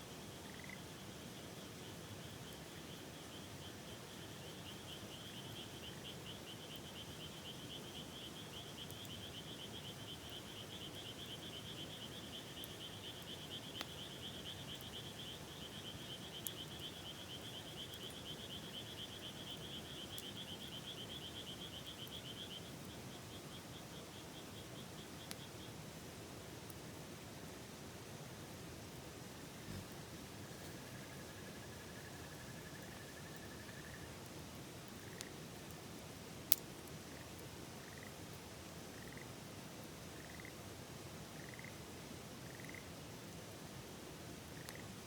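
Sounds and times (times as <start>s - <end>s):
campfire crackling: 0.2s - 41.4s.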